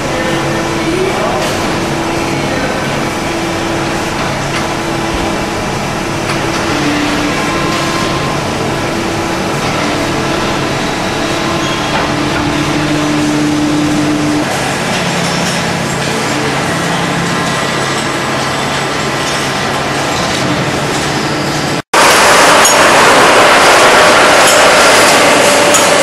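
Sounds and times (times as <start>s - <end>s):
machinery running with hum tones: 0.0s - 26.0s.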